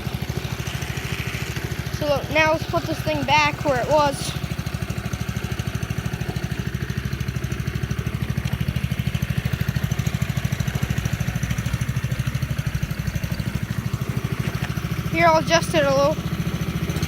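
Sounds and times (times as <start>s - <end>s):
lawn mower engine idling: 0.0s - 17.0s.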